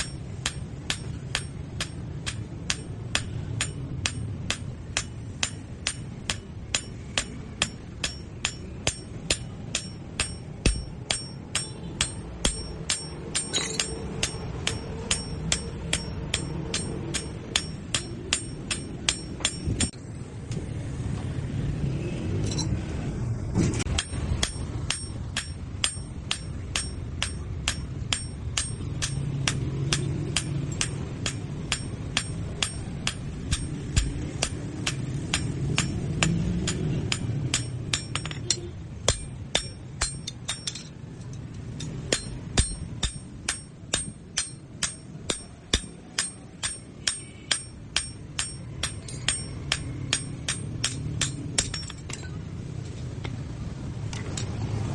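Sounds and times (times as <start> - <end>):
hammer ringing on steel anvil: 0.0 - 20.0, 23.9 - 40.9, 41.7 - 52.4.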